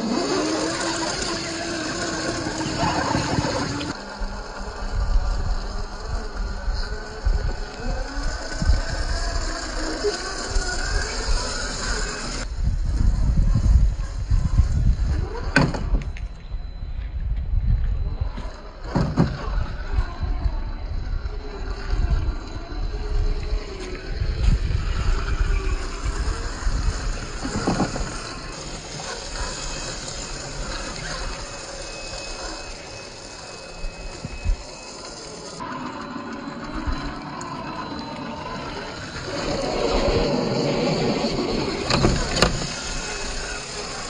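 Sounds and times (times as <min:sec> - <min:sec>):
electric drivetrain whine: 0:00.0 - 0:44.0.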